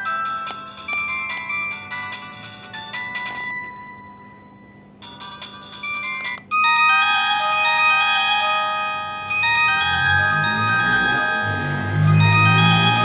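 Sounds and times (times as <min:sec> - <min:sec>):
electronic ringtone melody: 0:00.0 - 0:13.0
ringtone of held notes: 0:00.0 - 0:13.0.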